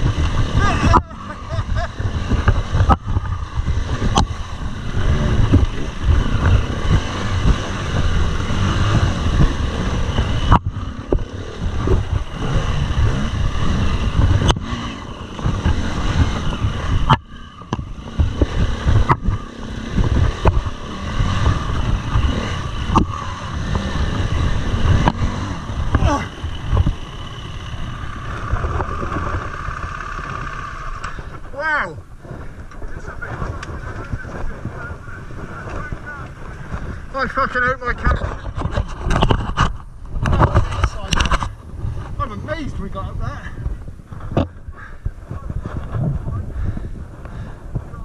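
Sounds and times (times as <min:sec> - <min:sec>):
motorcycle engine uneven revs: 0:00.0 - 0:48.0.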